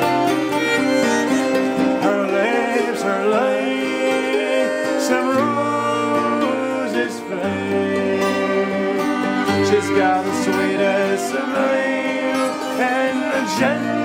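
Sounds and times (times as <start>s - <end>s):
strummed mandolin and guitar: 0.0s - 14.0s
man singing: 1.9s - 14.0s.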